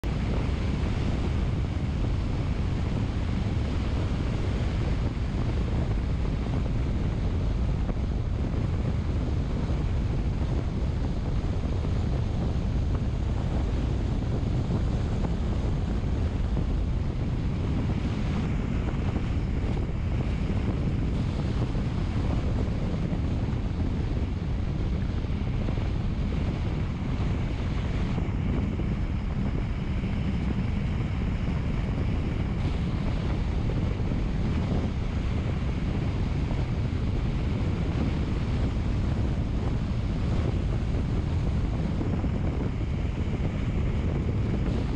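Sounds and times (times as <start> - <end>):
low rumble: 0.0 - 44.9
wind noise on microphone: 0.0 - 44.9.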